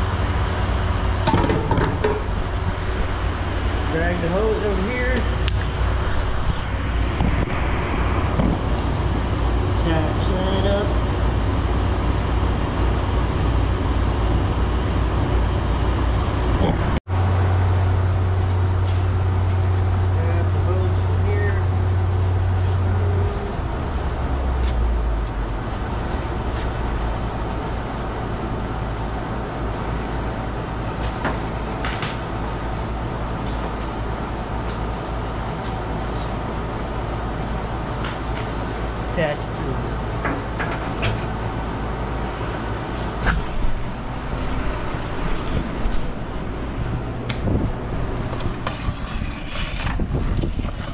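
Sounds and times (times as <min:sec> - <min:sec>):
machinery rumble: 0:00.0 - 0:50.9.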